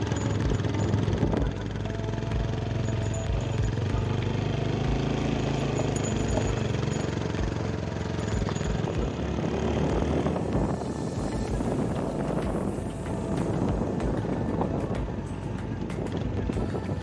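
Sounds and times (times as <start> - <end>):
motorcycle engine running: 0.0 - 17.0
riding noise: 0.0 - 17.0.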